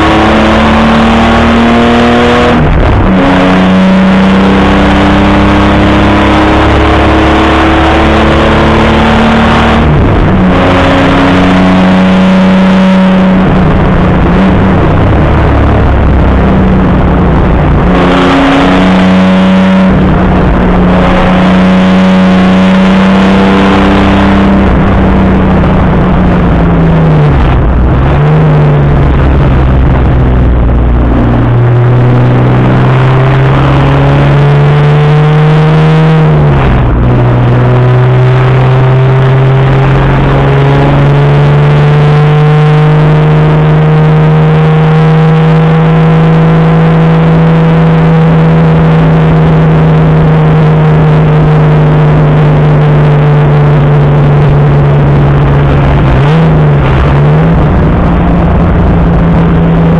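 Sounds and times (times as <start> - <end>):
racing engine at high revs: 0.0 - 59.9.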